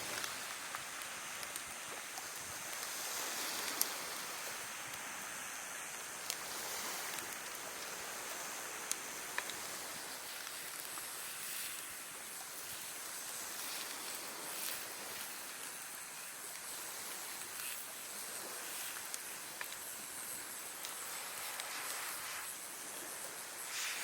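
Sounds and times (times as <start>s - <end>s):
campfire hissing: 0.0s - 24.0s
fire crackles: 0.0s - 24.0s.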